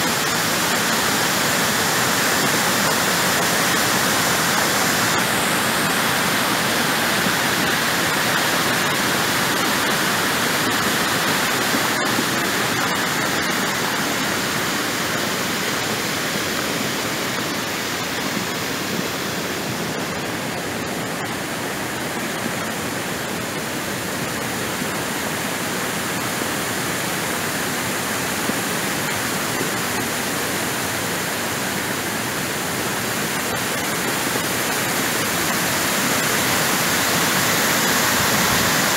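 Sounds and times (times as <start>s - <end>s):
floodwater rushing and pouring: 0.0s - 38.9s.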